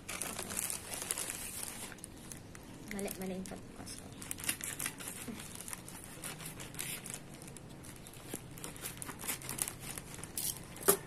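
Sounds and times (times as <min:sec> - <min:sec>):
plastic mailer crinkling and tearing: 0:00.0 - 0:10.8.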